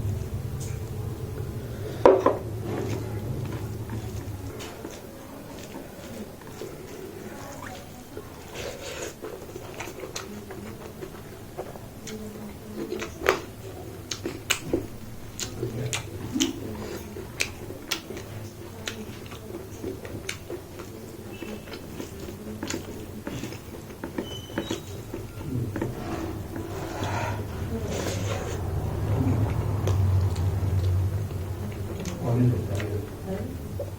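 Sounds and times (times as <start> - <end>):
person chewing: 2.7 - 33.9.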